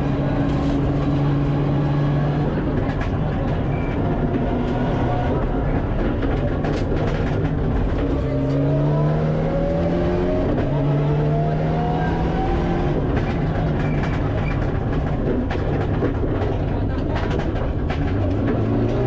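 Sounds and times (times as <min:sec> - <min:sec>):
car engine at full throttle: 0:00.0 - 0:19.0
loud road noise: 0:00.0 - 0:19.0.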